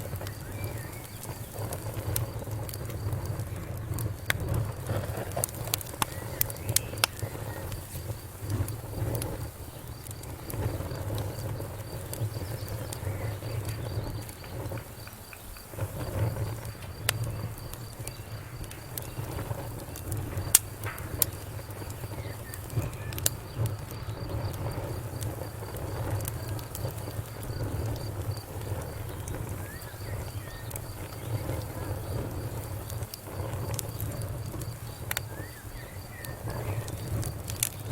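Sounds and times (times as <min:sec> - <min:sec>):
fire rumbling with crackles and pops: 0:00.0 - 0:37.9.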